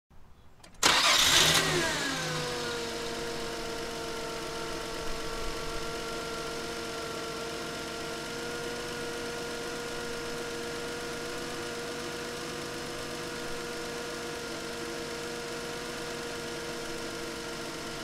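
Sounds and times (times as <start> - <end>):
car engine starting and idling: 0.6 - 18.0.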